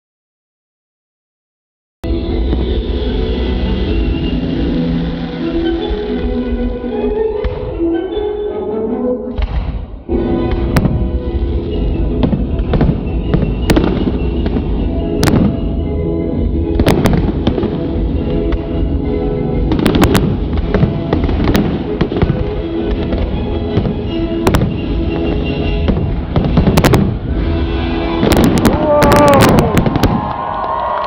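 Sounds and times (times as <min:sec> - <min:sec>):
loud music: 0:02.0 - 0:30.3
fireworks bangs: 0:02.3 - 0:05.5, 0:09.3 - 0:31.0.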